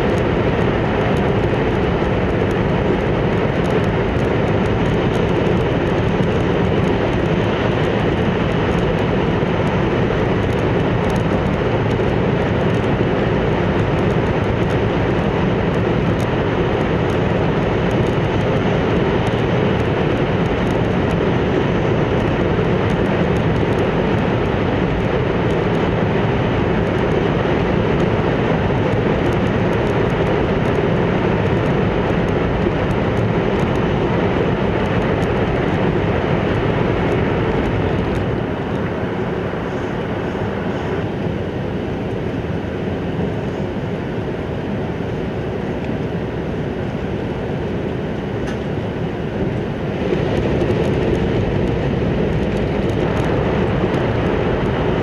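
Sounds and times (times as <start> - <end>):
high-speed train rumble and rush: 0.0 - 55.0.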